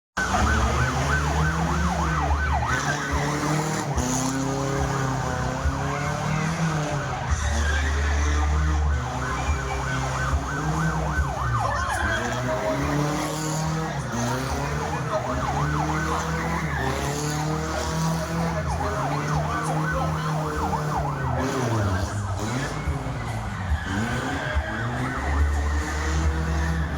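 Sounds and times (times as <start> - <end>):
car engine revving: 0.2 - 26.9
tyres squealing: 0.3 - 26.9.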